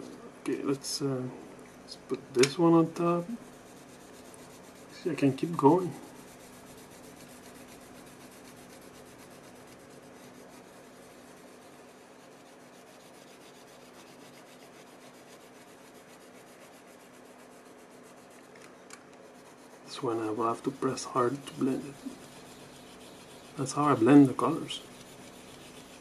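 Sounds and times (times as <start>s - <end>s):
colored pencil scratching on paper: 2.6s - 18.6s, 19.2s - 26.0s.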